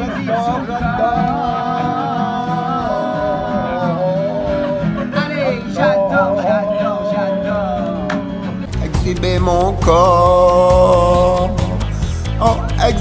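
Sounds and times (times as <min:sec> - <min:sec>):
guitar accompaniment: 0:00.0 - 0:13.0
person singing: 0:00.0 - 0:13.0.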